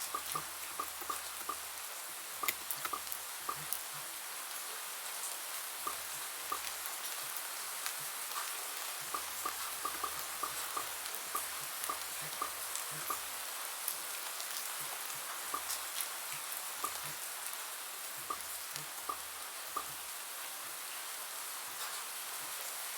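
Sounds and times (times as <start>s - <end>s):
rain hissing: 0.0s - 22.9s.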